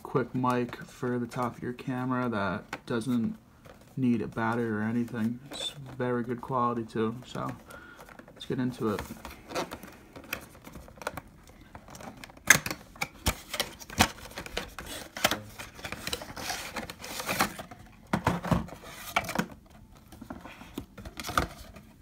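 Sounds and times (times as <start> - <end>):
packaging scraping and rustling: 3.0 - 22.0.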